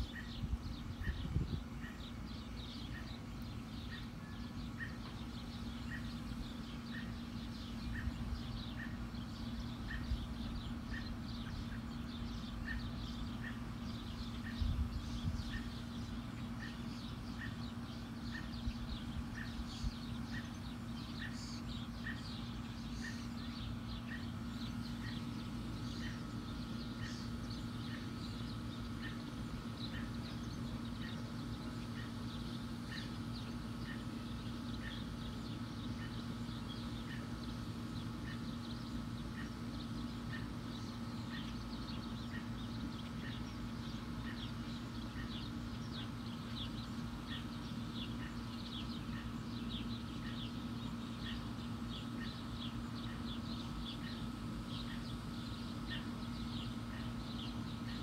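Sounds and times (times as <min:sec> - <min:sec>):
birds chirping and calling: 0:00.0 - 0:58.0
steady low hum: 0:00.0 - 0:58.0.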